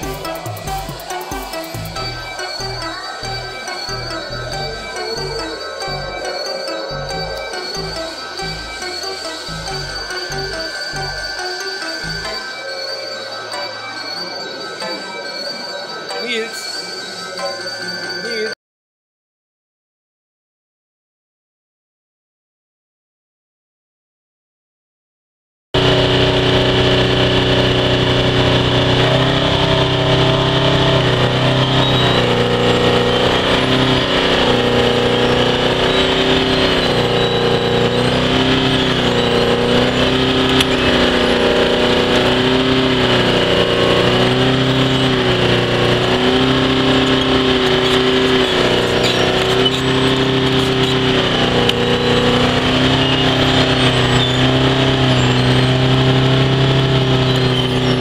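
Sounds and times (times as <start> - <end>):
trencher engine under load: 0.0 - 18.3, 25.8 - 58.0
digging wheel cutting trench: 0.0 - 18.4, 25.8 - 58.0.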